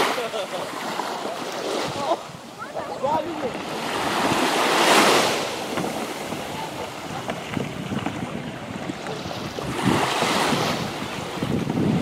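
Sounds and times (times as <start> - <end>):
water lapping and splashing: 0.0 - 12.0
wind on microphone: 0.8 - 12.0.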